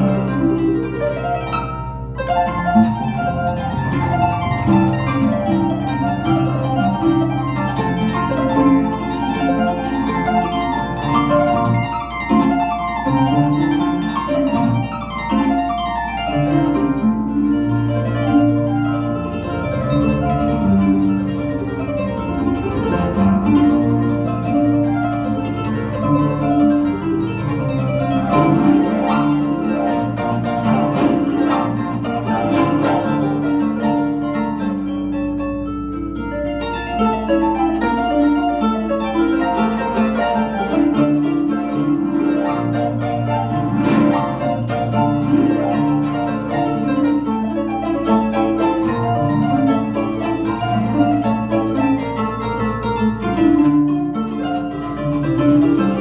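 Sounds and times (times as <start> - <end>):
plucked harp melody: 0.0 - 56.0.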